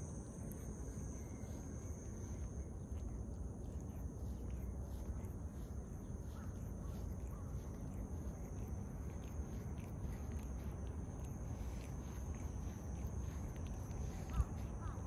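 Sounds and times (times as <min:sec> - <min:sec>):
cat licking fur: 0:00.4 - 0:15.0.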